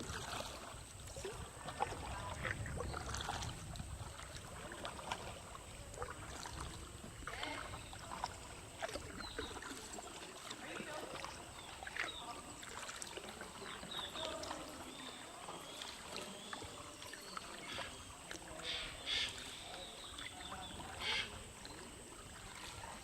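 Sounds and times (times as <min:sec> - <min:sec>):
kayak paddles splashing water: 0:00.0 - 0:23.0.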